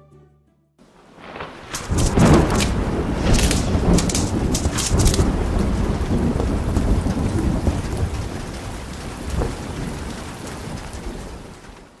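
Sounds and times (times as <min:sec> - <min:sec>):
steady rain: 0:00.8 - 0:12.0
thunder rumbling: 0:00.9 - 0:12.0.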